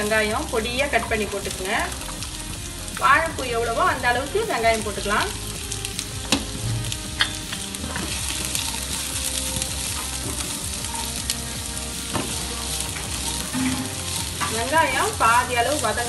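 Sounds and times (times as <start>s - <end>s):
onions sizzling in hot oil: 0.0s - 16.0s
spatula stirring: 0.9s - 16.0s.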